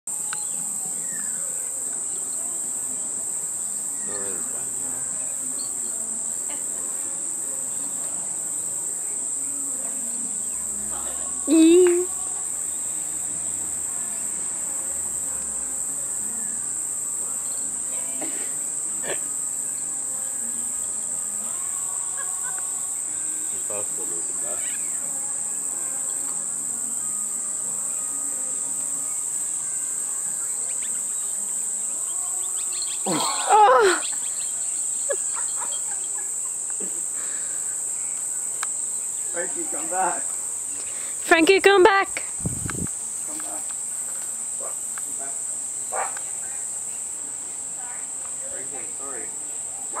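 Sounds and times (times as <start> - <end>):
high-pitched insect chorus: 0.1 - 50.0.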